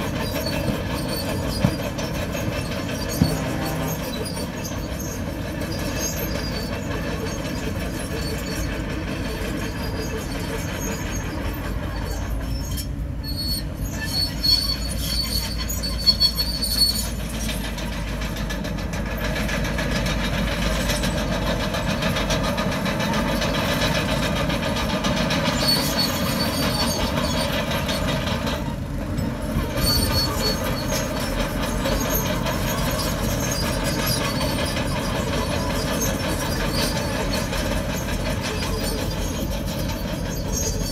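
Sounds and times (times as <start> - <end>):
diesel engine running: 0.0 - 40.9
steel tracks clanking and squealing: 0.0 - 40.9.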